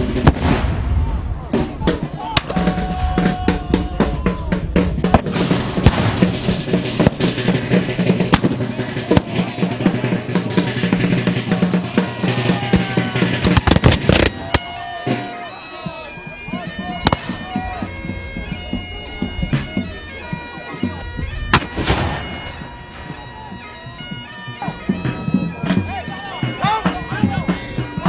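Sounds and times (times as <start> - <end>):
bagpipes playing held notes: 5.4 - 28.0.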